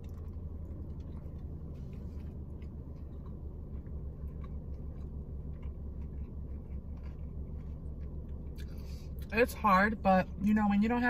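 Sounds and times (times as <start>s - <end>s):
person chewing: 0.0s - 9.3s
low car cabin hum: 0.0s - 11.0s.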